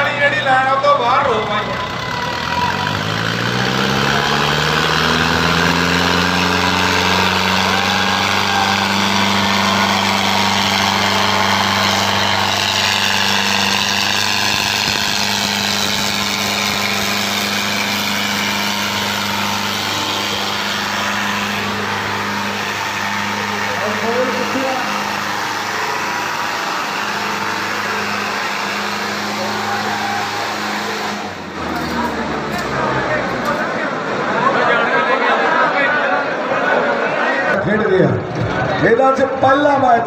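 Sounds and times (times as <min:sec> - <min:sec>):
diesel tractor engines revving: 0:00.0 - 0:40.0.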